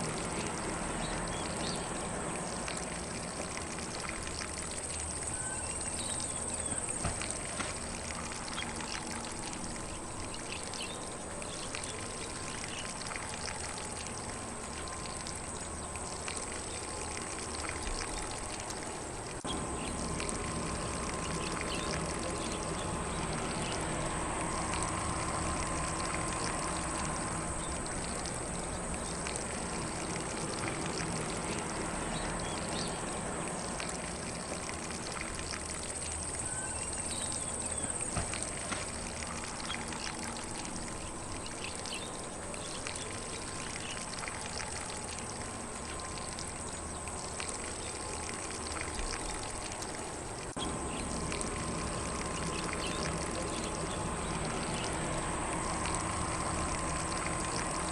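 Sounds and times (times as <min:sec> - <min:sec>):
lawn sprinkler spraying: 0:00.0 - 0:57.9.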